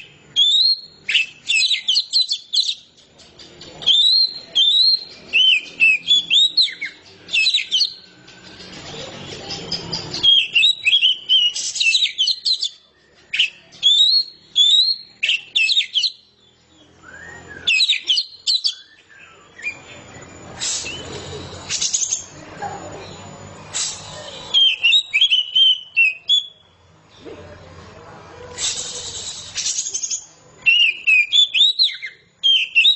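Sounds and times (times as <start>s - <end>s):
bird singing whistles and trills: 0.0s - 22.4s, 23.0s - 26.8s, 28.6s - 32.9s.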